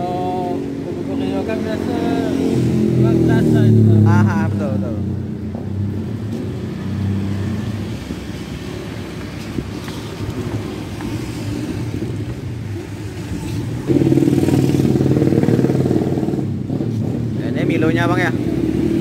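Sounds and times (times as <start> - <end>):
vehicle engines droning: 0.0 - 19.0.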